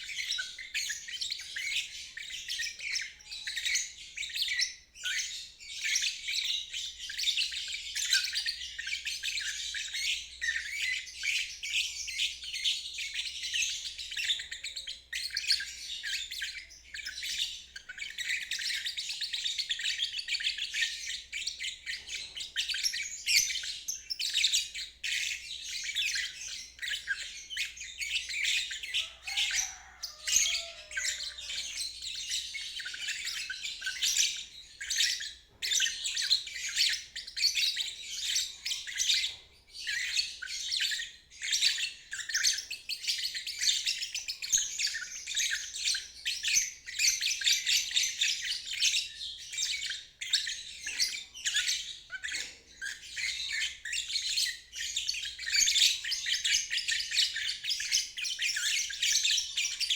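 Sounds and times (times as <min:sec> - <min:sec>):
lovebird chattering chirps: 0:00.0 - 0:59.9.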